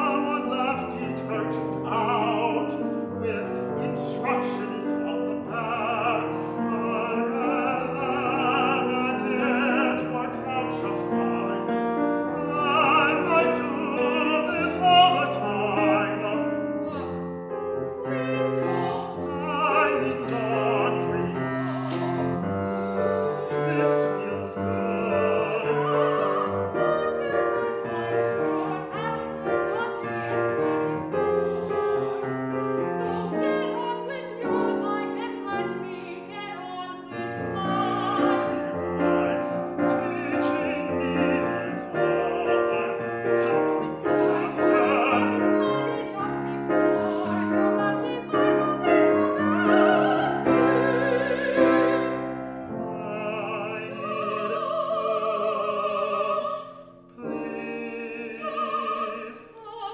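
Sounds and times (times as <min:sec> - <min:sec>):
operatic singing: 0:00.0 - 0:59.9
piano accompaniment: 0:00.0 - 0:59.9.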